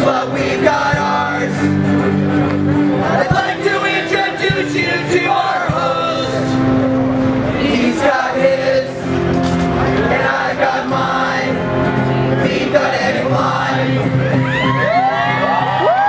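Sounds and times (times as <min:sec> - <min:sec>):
live band playing: 0:00.0 - 0:15.8
crowd singing along: 0:00.0 - 0:16.0.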